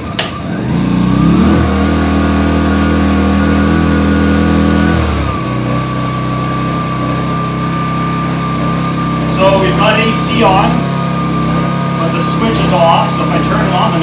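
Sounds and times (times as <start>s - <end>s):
generator engine running: 0.0s - 14.0s.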